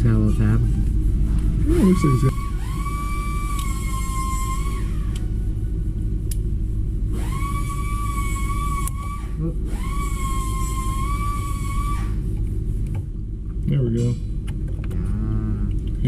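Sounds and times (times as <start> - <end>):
whine gliding up in pitch: 0.0 - 12.9
low machine hum: 0.0 - 16.0.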